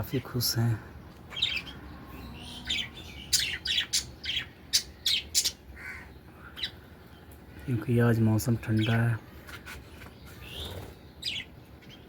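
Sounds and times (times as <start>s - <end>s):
budgerigars chirping and squawking: 1.2s - 12.0s.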